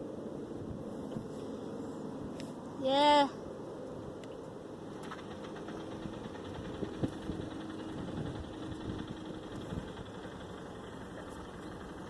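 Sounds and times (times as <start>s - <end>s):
faint vehicle engine running: 0.0s - 12.0s
outdoor background noise: 0.0s - 12.0s.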